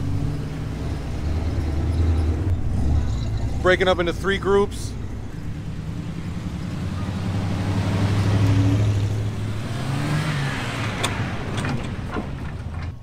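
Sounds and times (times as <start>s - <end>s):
engine revving: 0.0s - 13.0s
vehicles driving past: 0.0s - 13.0s.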